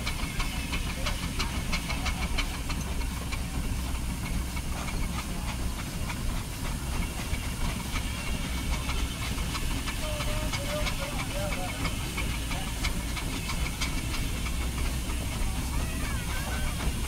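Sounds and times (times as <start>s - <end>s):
steam engine rumbling: 0.0s - 17.0s
steam hissing: 0.0s - 17.0s.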